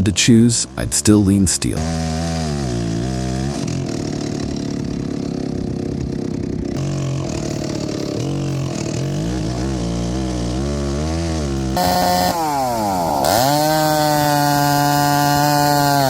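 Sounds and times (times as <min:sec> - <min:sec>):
chainsaw engine revving: 0:01.5 - 0:16.0.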